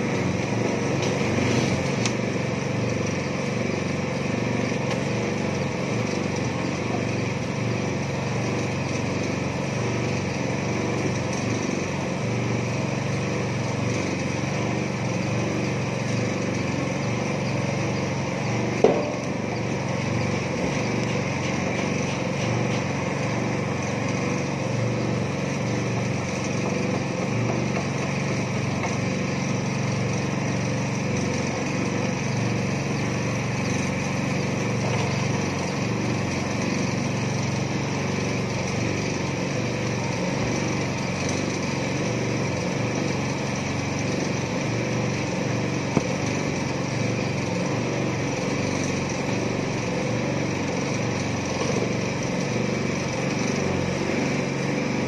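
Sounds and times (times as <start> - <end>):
small petrol engine running: 0.0 - 55.0.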